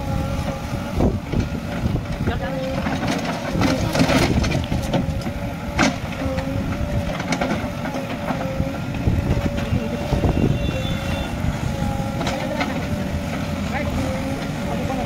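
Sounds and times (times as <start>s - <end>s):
backhoe diesel engine whining: 0.0s - 15.0s.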